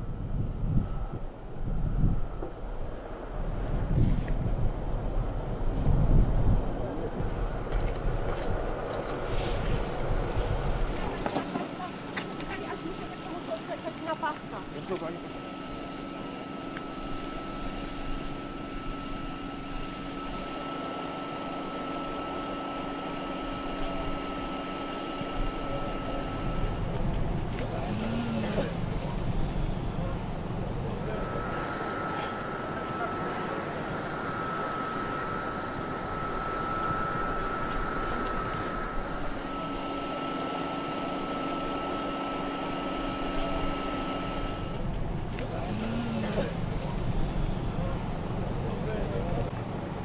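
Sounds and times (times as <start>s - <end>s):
engine idling hum: 0.0s - 50.0s
high-pitched whine: 0.0s - 50.0s
low drone: 0.0s - 50.0s
outdoor background noise: 0.0s - 50.0s.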